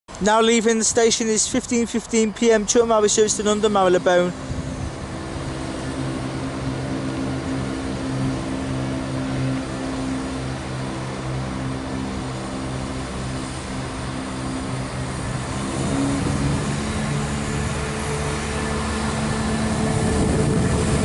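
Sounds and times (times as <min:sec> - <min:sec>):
train diesel engine drone: 0:00.1 - 0:21.0.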